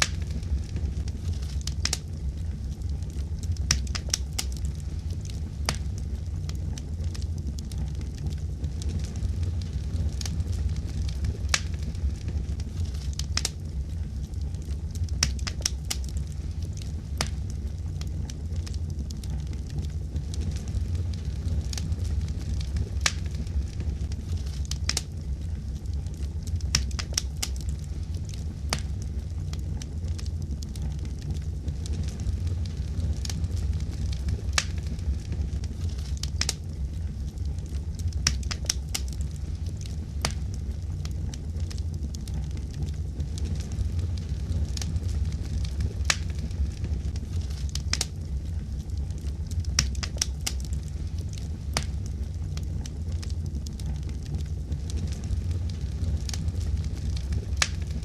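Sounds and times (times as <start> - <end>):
steady low rumble: 0.0 - 58.0
wood fire crackling and popping: 0.0 - 58.0.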